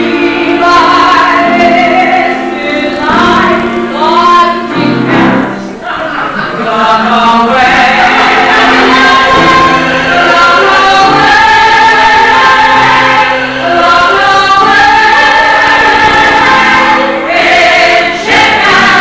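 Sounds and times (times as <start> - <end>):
chorus singing: 0.0 - 19.0.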